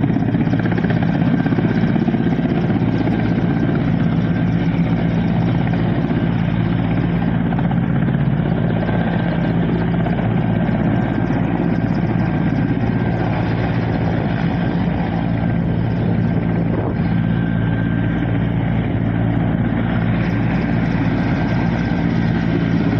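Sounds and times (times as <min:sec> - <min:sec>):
helicopter rotor and engine drone: 0:00.0 - 0:22.9.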